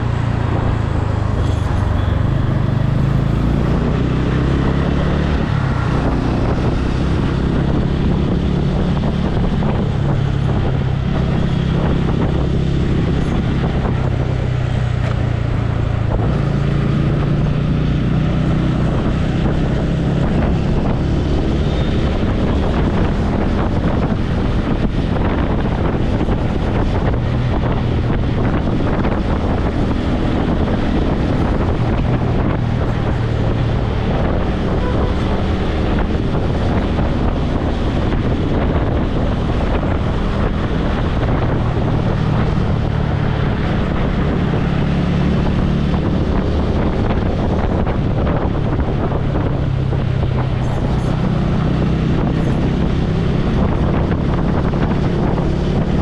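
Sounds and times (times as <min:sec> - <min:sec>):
motorcycle engine humming: 0:00.0 - 0:56.0
wind buffeting a microphone: 0:00.0 - 0:56.0.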